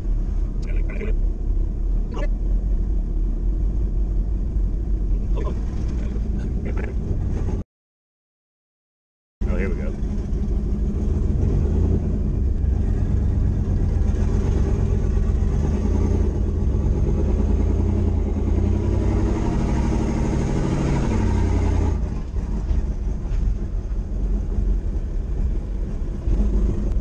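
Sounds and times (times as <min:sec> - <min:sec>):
car engine rumbling from inside cabin: 0:00.0 - 0:07.6, 0:09.4 - 0:27.0.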